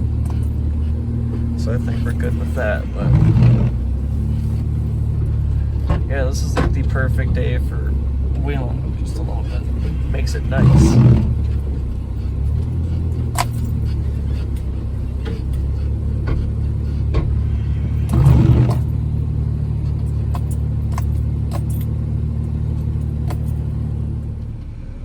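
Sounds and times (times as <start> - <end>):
car engine low drone: 0.0 - 25.0.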